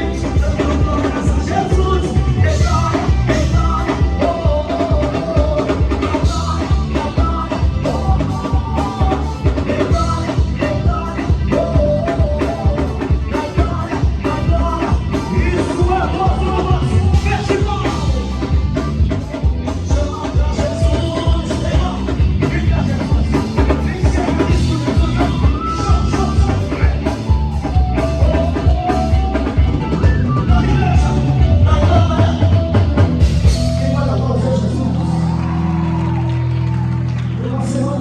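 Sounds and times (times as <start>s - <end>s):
drum kit: 0.0s - 34.8s
bass: 0.0s - 38.0s
lead singer: 0.0s - 38.0s
live gospel band music: 0.0s - 38.0s.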